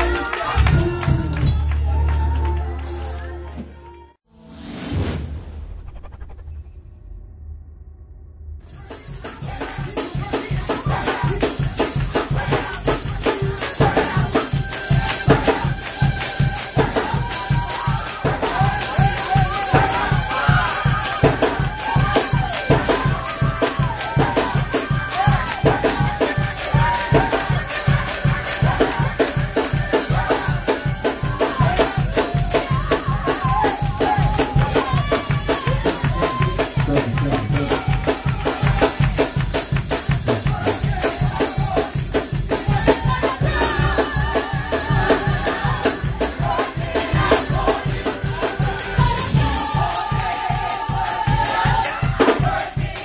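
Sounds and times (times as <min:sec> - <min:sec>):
gospel band playing: 0:00.0 - 0:03.9, 0:08.7 - 0:53.0.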